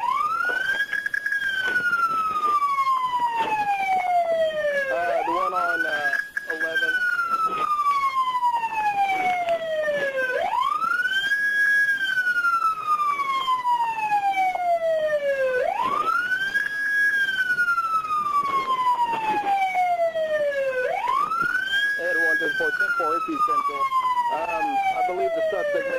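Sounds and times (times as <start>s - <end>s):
police siren wailing: 0.0s - 25.9s.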